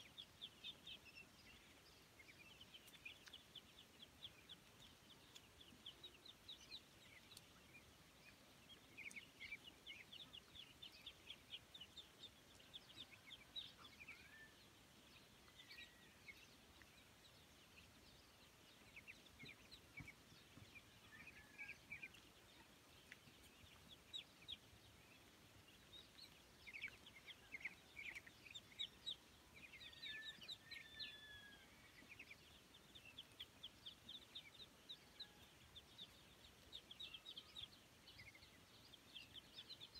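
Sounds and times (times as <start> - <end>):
ducklings and chicks peeping: 0.0 - 39.9.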